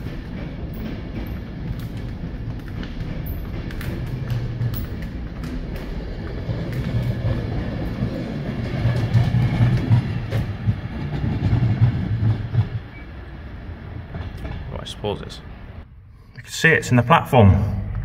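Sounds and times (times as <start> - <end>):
train rumbling past: 0.0 - 16.2.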